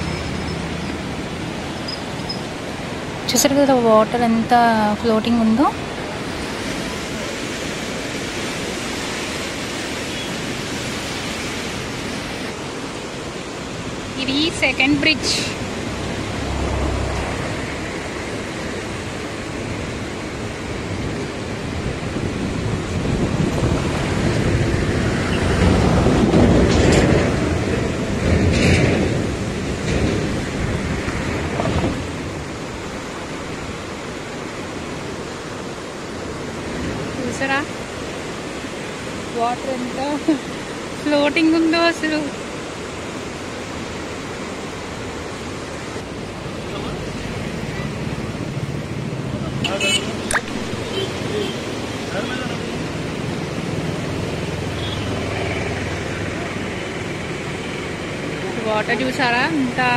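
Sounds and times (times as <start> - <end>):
river rushing through gates: 0.0 - 59.9.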